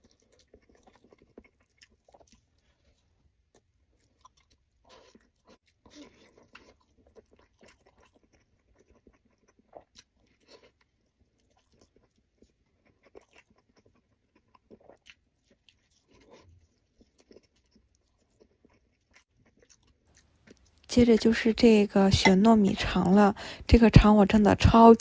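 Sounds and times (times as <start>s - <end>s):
person chewing: 0.0s - 23.7s.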